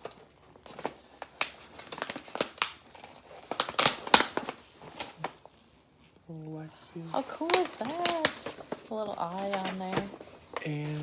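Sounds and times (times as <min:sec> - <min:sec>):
paper crinkling and tearing: 0:00.0 - 0:05.6, 0:07.0 - 0:11.0.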